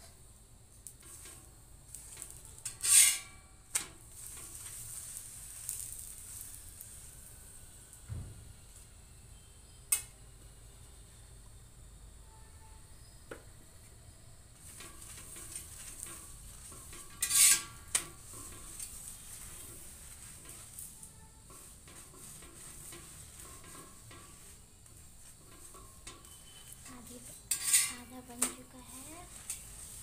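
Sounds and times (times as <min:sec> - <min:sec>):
oil sizzling on a hot pan: 0:00.0 - 0:11.7, 0:14.4 - 0:30.0.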